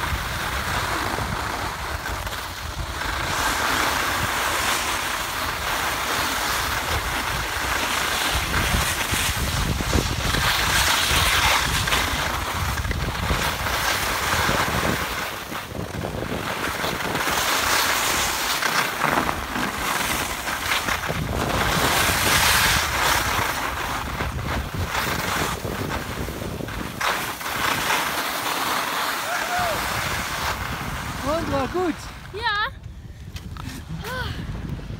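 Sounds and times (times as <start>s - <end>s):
wind buffeting microphone: 0.0s - 18.4s, 19.2s - 28.2s, 29.3s - 34.9s
skis scraping on packed snow: 0.0s - 34.0s.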